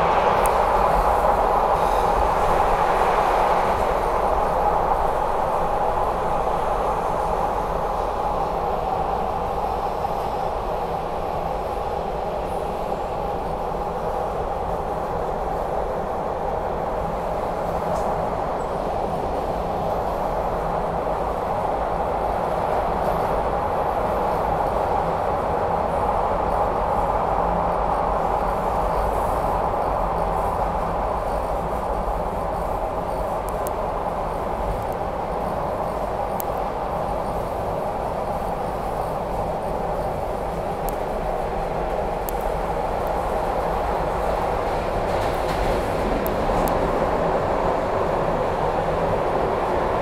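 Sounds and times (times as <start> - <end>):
subway wheels roaring on rail: 0.0 - 50.0.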